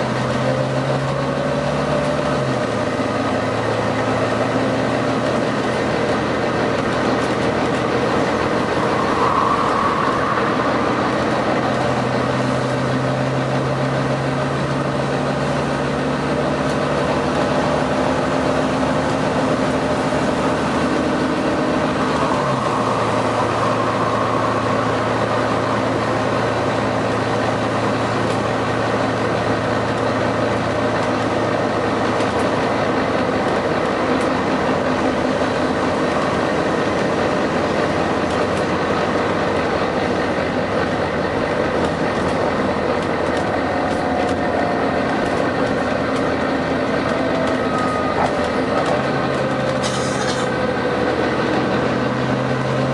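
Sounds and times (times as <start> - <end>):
bus diesel engine running: 0.0 - 52.9
road and body noise: 0.0 - 52.9.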